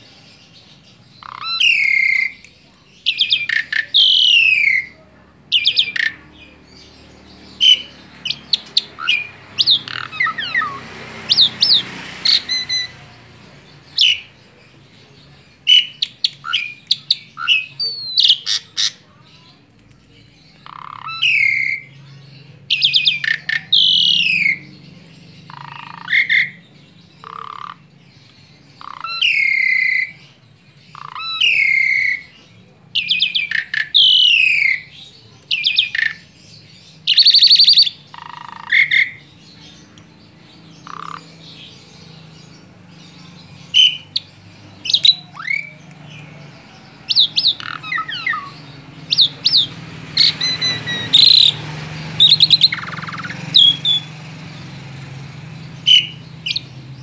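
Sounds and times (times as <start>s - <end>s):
starling singing whistles and squawks: 0.9s - 14.8s, 15.5s - 19.1s, 20.4s - 57.0s.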